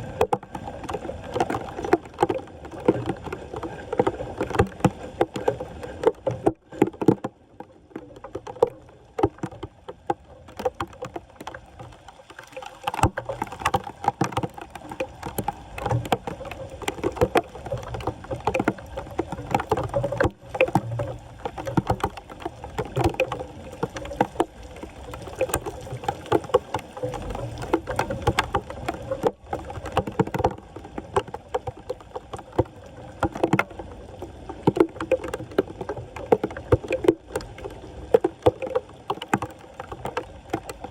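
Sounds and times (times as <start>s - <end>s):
water splashing and sloshing: 0.0s - 40.9s.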